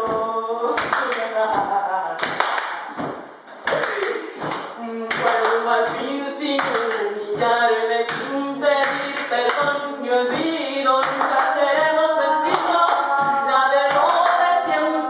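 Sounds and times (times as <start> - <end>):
group of voices singing: 0.0 - 15.0
hand claps: 0.8 - 11.9, 12.5 - 14.5.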